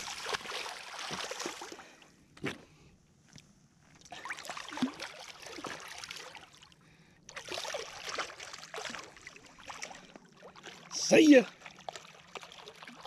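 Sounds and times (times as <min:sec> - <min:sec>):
shallow water splashing: 0:00.0 - 0:02.7, 0:03.9 - 0:13.0.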